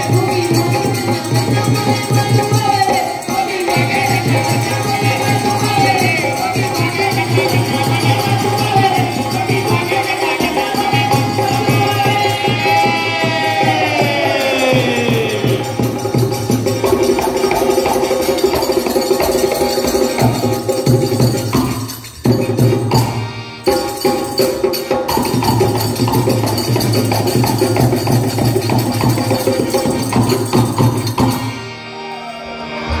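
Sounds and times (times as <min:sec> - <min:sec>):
hand drums beating: 0:00.0 - 0:31.6
jingling cymbals: 0:00.0 - 0:32.4
harmonium: 0:00.0 - 0:33.0.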